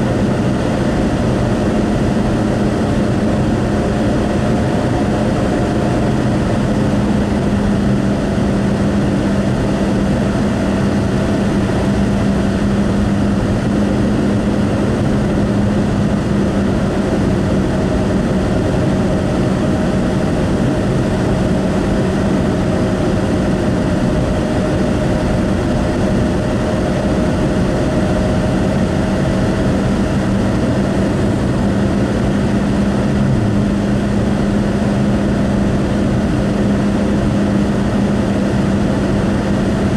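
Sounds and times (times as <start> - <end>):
low engine drone: 0.0 - 39.9.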